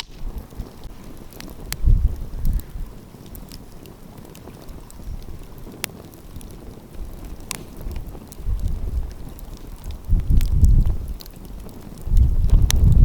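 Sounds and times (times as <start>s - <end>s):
wind buffeting microphone: 0.0s - 13.0s
wood fire crackling: 0.0s - 13.0s.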